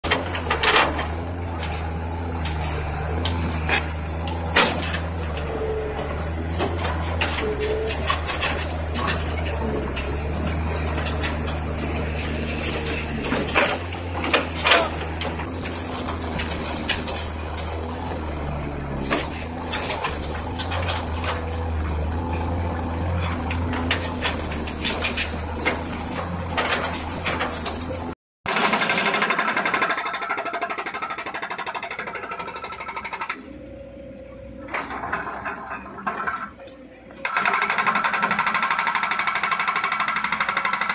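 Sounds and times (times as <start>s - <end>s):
excavator engine drone: 0.0s - 40.9s.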